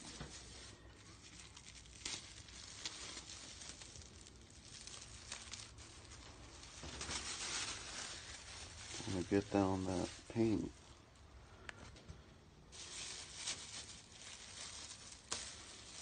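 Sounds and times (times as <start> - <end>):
plastic sheeting crinkling and tearing: 0.0 - 11.3, 12.7 - 16.0.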